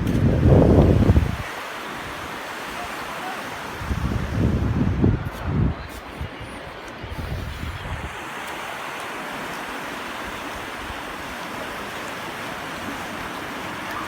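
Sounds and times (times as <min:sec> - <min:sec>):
sea waves washing on beach: 0:00.0 - 0:14.0.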